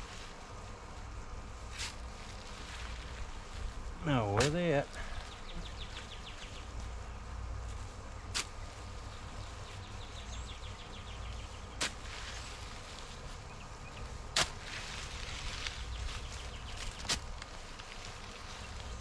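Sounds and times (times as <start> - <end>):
garden fork digging wet compost: 1.7 - 7.0, 7.6 - 19.0.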